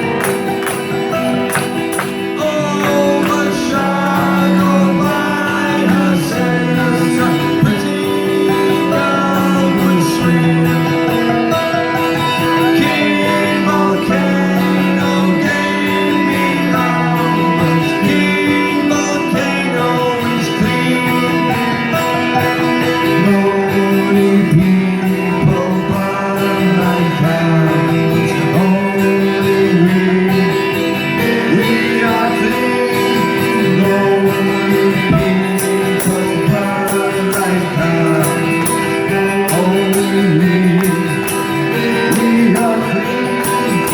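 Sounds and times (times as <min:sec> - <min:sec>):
guitars: 0:00.0 - 0:43.9
live rock band playing: 0:00.0 - 0:43.9
person singing: 0:00.0 - 0:43.9.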